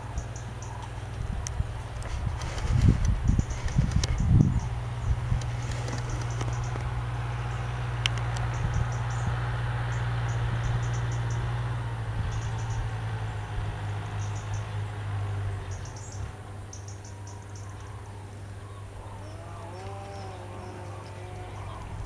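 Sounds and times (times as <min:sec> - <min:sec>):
distant cranes trumpeting: 0:00.0 - 0:22.0
steady low hum: 0:00.0 - 0:22.0.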